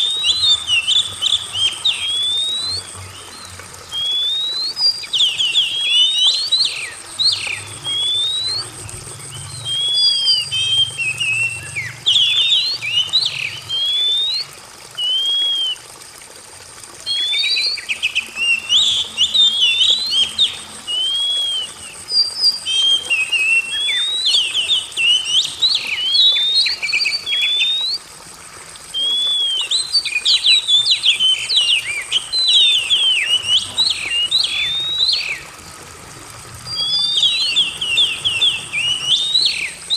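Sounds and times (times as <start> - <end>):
bird singing whistled notes: 0.0 - 15.9, 17.0 - 28.1, 28.9 - 35.5, 36.6 - 39.9
thin steady high tone: 0.0 - 16.0, 17.0 - 39.9.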